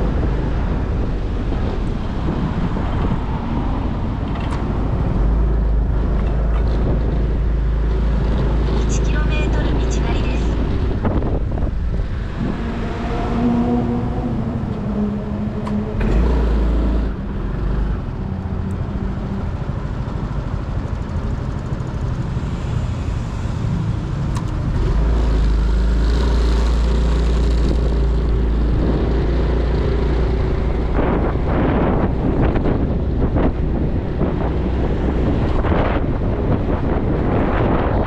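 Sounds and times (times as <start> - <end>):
heavy low rumble: 0.0 - 38.0
road noise: 0.0 - 38.0
wind buffeting microphone: 0.0 - 38.0.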